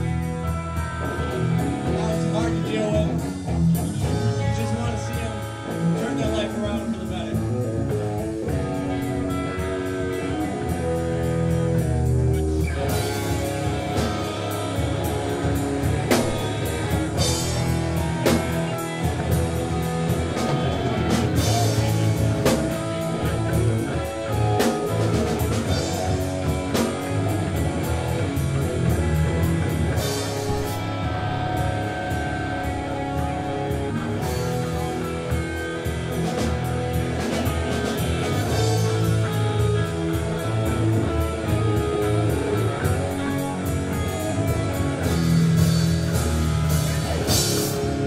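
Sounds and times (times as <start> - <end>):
electric guitars and bass riff: 0.0 - 48.0
drum kit with crashing cymbals: 7.2 - 48.0.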